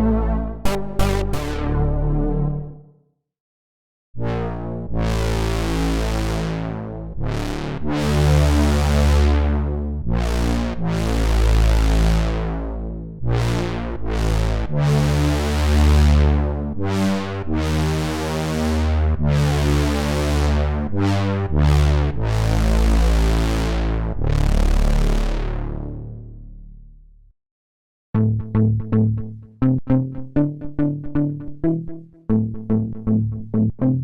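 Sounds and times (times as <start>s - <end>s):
synthesizer playing bass chords: 0.0s - 2.9s, 4.2s - 27.2s, 28.2s - 34.0s.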